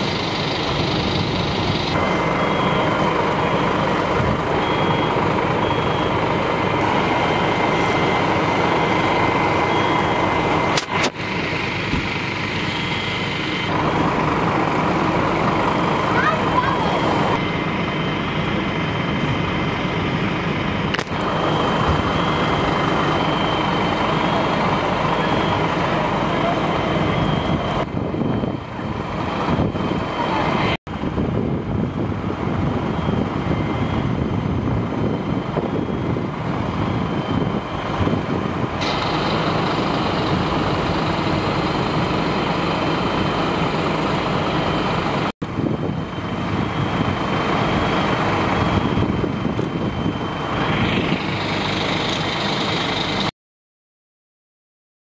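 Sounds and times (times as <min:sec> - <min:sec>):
engines running: 0:00.0 - 0:53.3.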